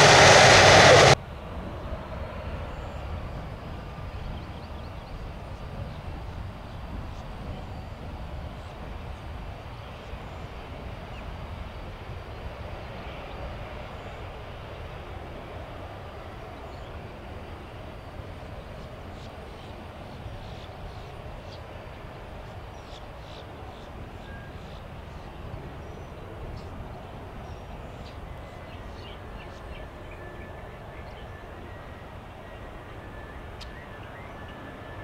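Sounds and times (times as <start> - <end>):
distant jet engine rumble: 0.0 - 35.0.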